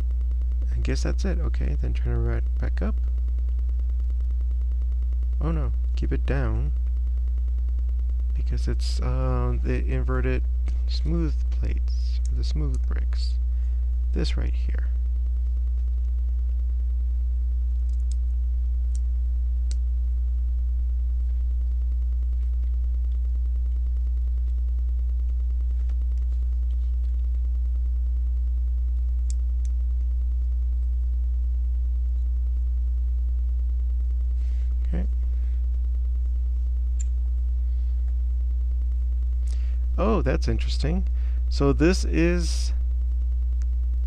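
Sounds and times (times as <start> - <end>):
mains hum: 0.0 - 44.0.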